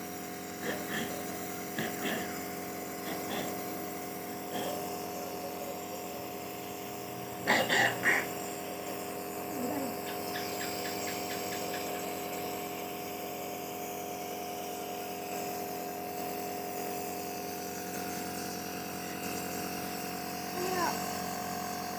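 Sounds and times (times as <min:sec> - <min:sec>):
nebulizer compressor humming: 0:00.0 - 0:21.9.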